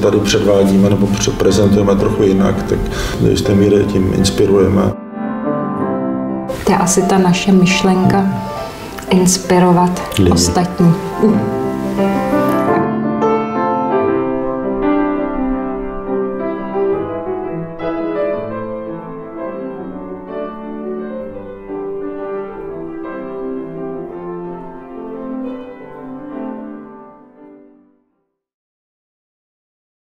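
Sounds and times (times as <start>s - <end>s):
piano background music: 0.0s - 28.3s.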